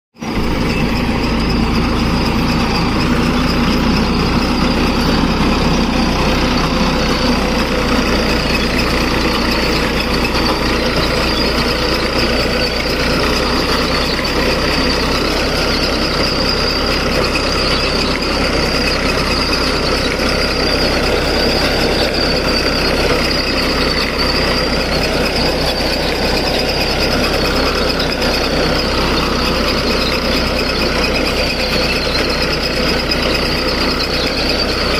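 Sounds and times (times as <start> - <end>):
harvester engine droning: 0.2 - 34.9.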